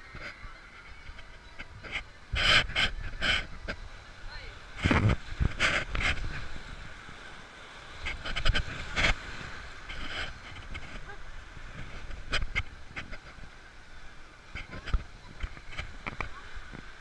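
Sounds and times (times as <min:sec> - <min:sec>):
wind on microphone: 0:00.0 - 0:07.3, 0:08.0 - 0:17.0
rushing splashing water: 0:00.0 - 0:17.0.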